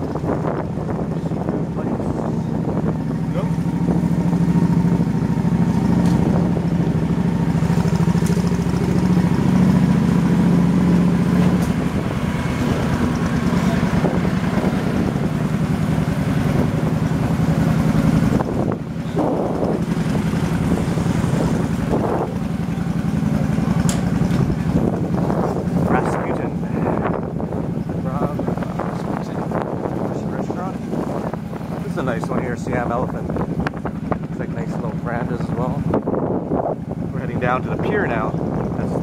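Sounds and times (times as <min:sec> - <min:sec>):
motorbike engine running: 0:00.0 - 0:39.0
wind buffeting microphone: 0:00.0 - 0:39.0.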